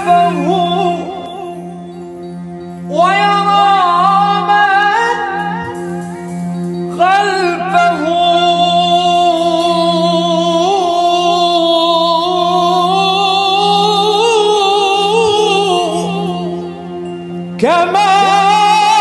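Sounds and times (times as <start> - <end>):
man singing melismatic line: 0.0 - 19.0.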